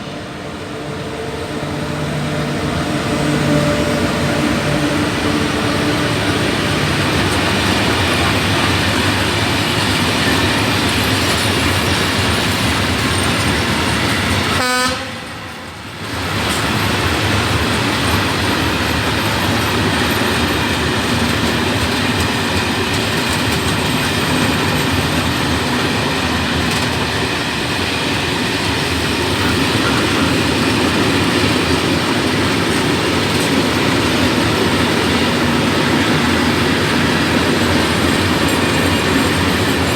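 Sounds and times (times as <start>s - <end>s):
freight train wheels on rail: 0.0s - 39.9s.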